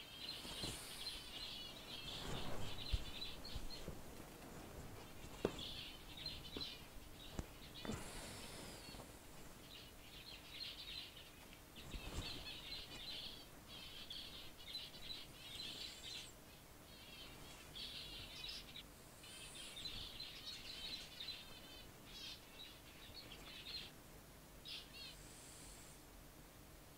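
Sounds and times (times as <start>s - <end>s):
zebra finches singing: 0.0s - 4.0s, 4.6s - 24.0s, 24.6s - 25.9s.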